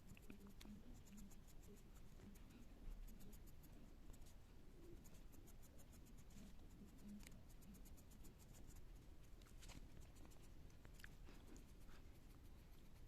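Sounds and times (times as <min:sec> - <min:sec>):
pencil scratching on paper: 0:00.0 - 0:10.5.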